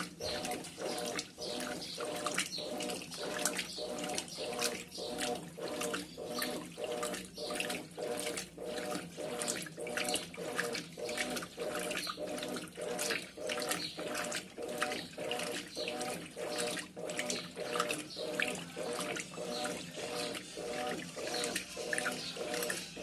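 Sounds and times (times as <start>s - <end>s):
pulsing motor hum: 0.0s - 23.0s
washing machine sloshing water: 0.0s - 23.0s.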